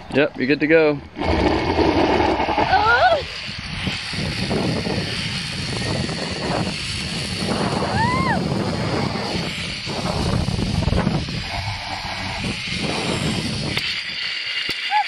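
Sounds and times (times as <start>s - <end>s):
zipline trolley on steel cable: 0.0s - 15.0s
wind rushing over microphone: 1.0s - 14.3s.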